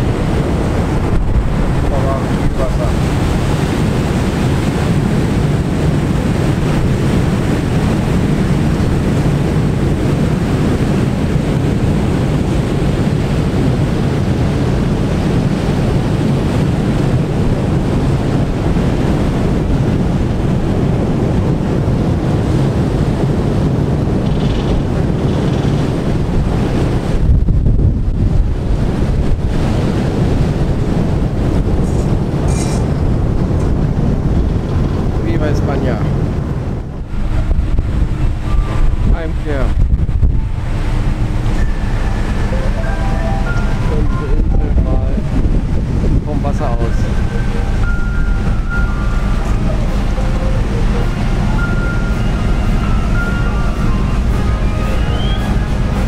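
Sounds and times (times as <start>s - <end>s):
low rumble of ship and sea: 0.0s - 56.0s
wind buffeting microphone: 0.0s - 56.0s.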